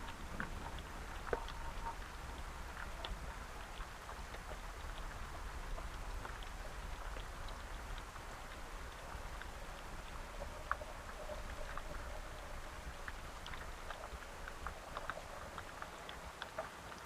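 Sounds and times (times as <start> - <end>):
raindrops dripping close by: 0.0 - 17.0
steady rain hiss: 0.0 - 17.0.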